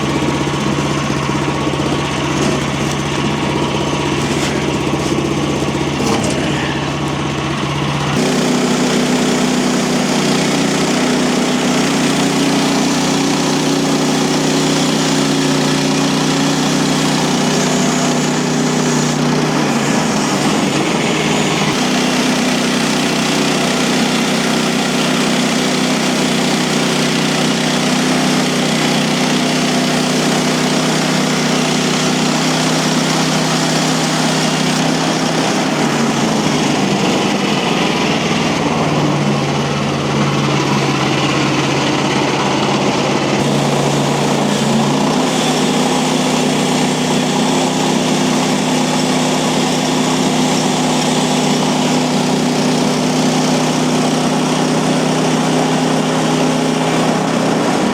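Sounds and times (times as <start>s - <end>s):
gasoline engine running: 0.0s - 57.9s.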